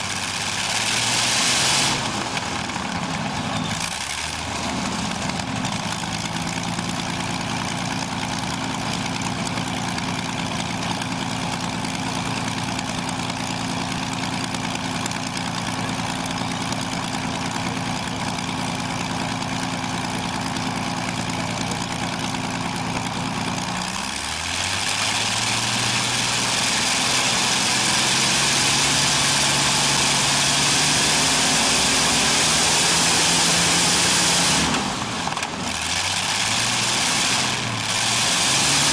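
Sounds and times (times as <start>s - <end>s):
aircraft engine running: 0.0s - 38.9s.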